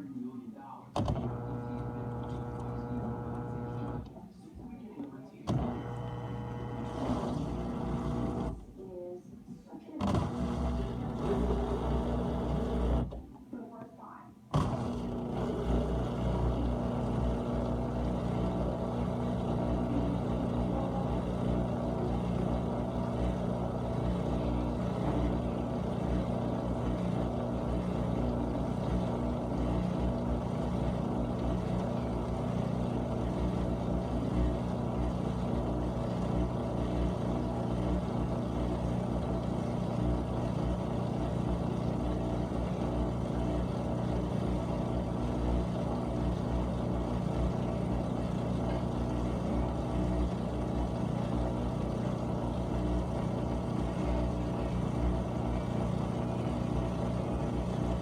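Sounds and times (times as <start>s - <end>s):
dishwasher motor hum: 0.9s - 58.0s.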